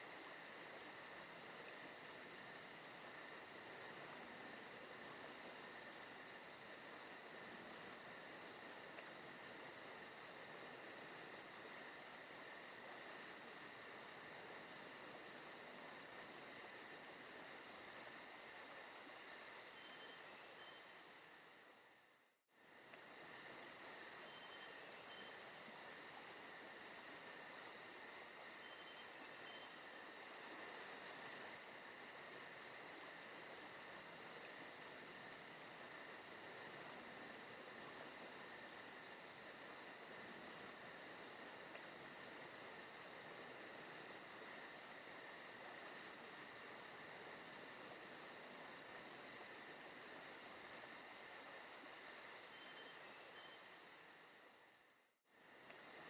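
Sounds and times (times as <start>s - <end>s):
insects chirring: 0.1s - 56.0s.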